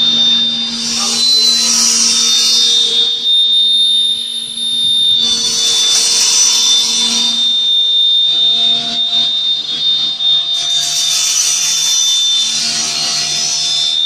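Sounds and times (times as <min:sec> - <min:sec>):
cutter discs spinning with high whine: 0:00.0 - 0:14.0.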